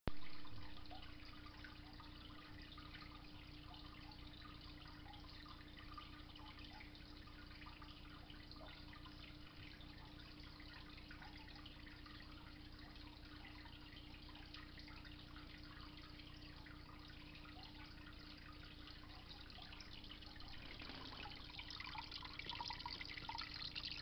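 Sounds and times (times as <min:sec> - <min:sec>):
water trickling and splashing: 0:00.1 - 0:24.0.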